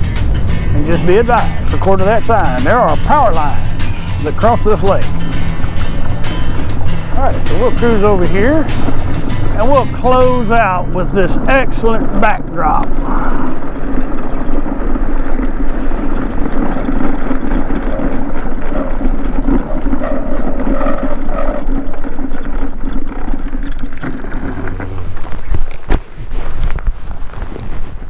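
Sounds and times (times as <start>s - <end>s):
motor scooter engine droning: 0.0s - 26.2s
wind noise on microphone: 0.0s - 28.0s.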